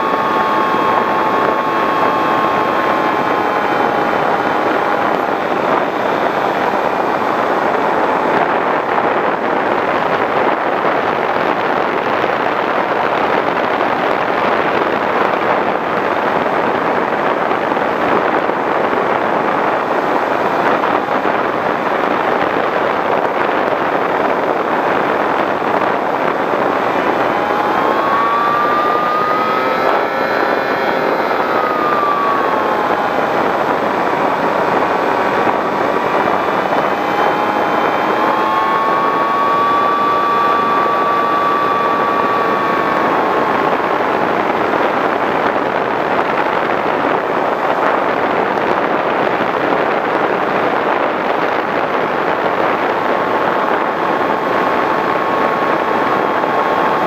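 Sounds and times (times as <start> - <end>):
model plane motor whining: 0.0 - 57.0
wind rush on microphone: 0.0 - 57.0.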